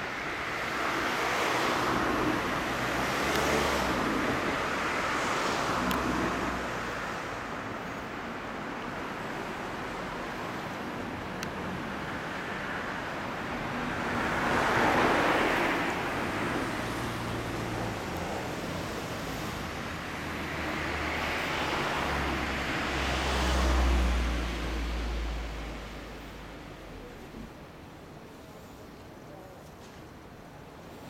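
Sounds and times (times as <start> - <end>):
steady street hum: 0.0 - 31.0
vehicles passing by: 0.0 - 31.0.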